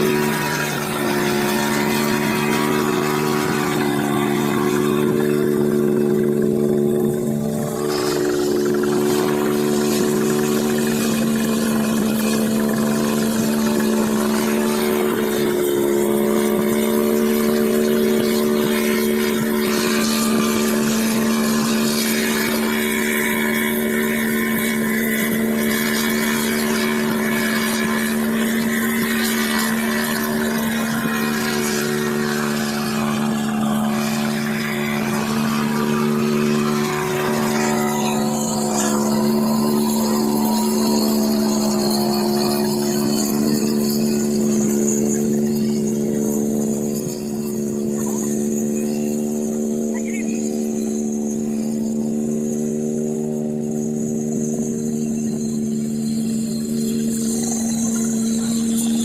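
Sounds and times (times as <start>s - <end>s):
helicopter engine humming: 0.0s - 59.0s
rotor wash noise: 0.0s - 59.0s.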